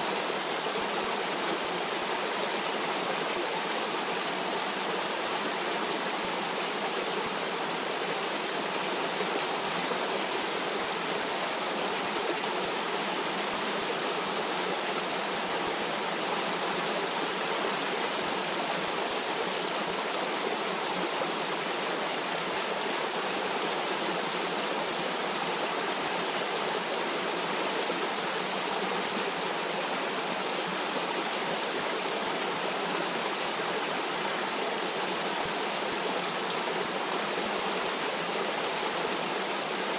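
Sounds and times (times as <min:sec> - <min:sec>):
rush of running water: 0:00.0 - 0:39.9.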